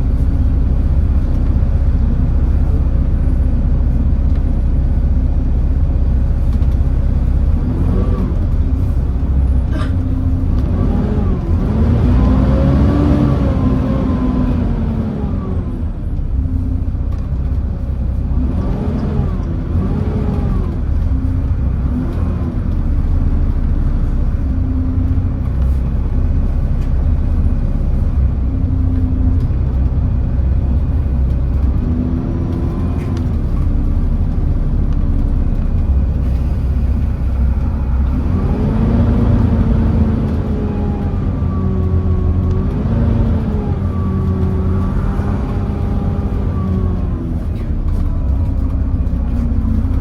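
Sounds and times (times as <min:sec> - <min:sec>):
bus diesel engine rumbling: 0:00.0 - 0:50.0.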